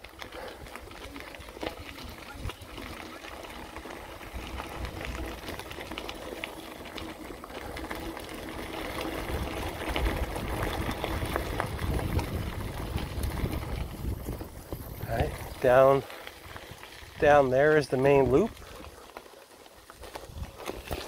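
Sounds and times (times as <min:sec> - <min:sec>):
bicycle rattling: 0:00.0 - 0:21.0
tyres crunching over gravel: 0:00.0 - 0:21.0
wind rumbling on microphone: 0:00.1 - 0:06.3, 0:06.9 - 0:17.5, 0:20.0 - 0:21.0.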